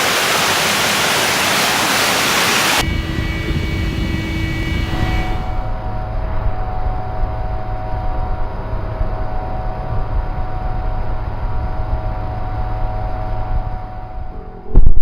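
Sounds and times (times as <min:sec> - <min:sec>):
machine mid-pitched whine: 0:02.7 - 0:15.0
machine low rumble: 0:02.8 - 0:15.0.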